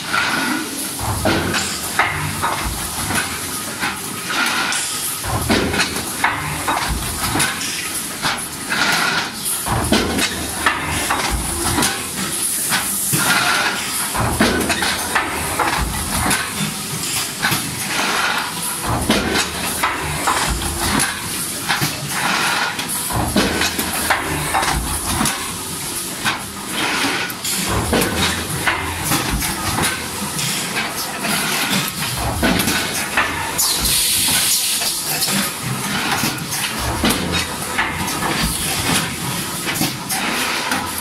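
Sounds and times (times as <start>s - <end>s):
metal forming machine running: 0.0s - 41.0s.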